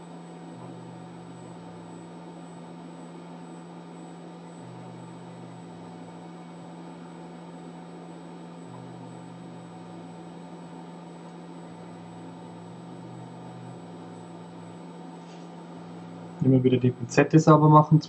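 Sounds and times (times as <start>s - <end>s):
hot-air blower fan hiss: 0.0s - 18.0s
low pulsing hum: 0.0s - 18.0s.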